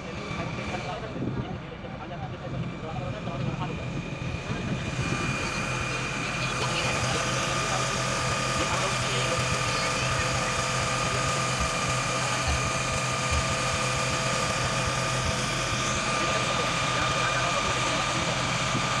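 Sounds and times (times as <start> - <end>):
boat engine droning: 0.0 - 19.0
constant hum: 0.0 - 19.0
water noise: 2.4 - 19.0.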